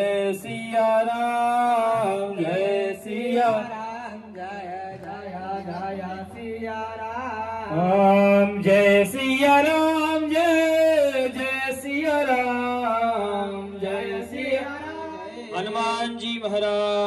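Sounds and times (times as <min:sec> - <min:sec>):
devotional singing over loudspeaker: 0:00.0 - 0:17.0.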